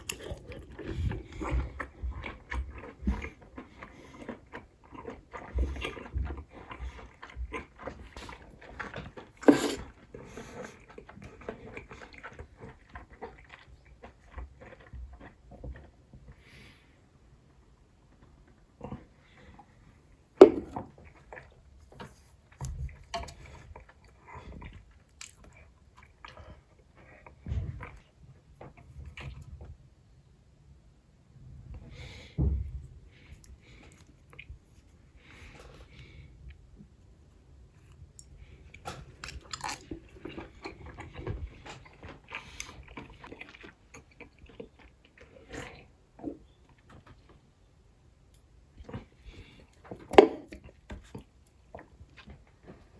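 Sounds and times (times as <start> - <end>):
chewing and biting food: 0.0 - 16.8, 17.6 - 29.8, 33.1 - 52.9.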